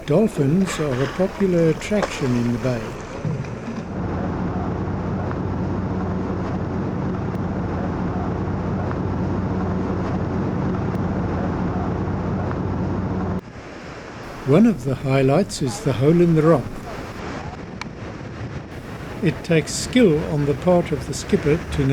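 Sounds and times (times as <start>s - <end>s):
boat engine humming: 0.0s - 13.4s, 14.2s - 17.2s, 18.7s - 21.9s.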